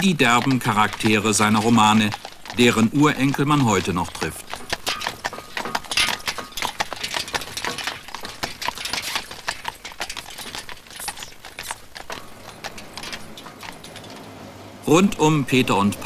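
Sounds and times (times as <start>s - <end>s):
horse hooves clopping on road: 0.0s - 16.0s
wagon and harness rattling: 0.0s - 16.0s.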